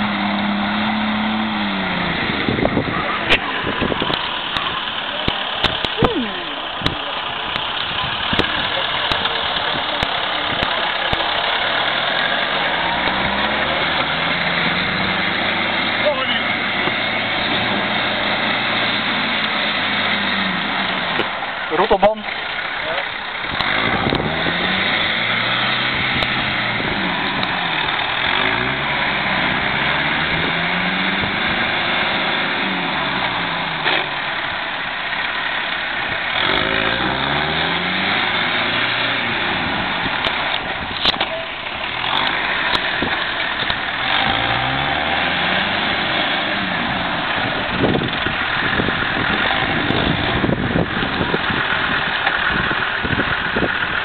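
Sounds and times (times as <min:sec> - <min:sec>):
suv engine revving: 0:00.0 - 0:54.0.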